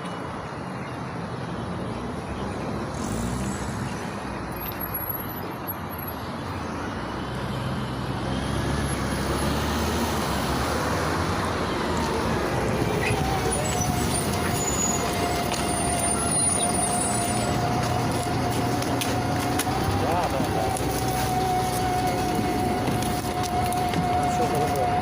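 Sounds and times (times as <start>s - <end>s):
road noise: 0.0s - 25.0s
bus diesel engine running: 1.8s - 25.0s.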